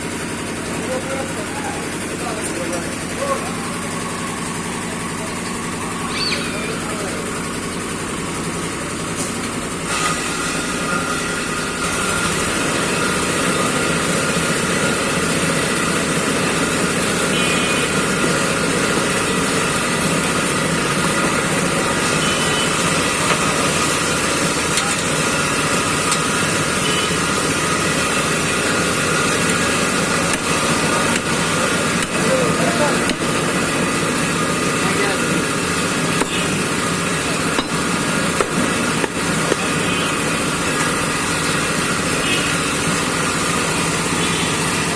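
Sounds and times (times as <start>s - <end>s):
engine noise: 0.0s - 44.9s.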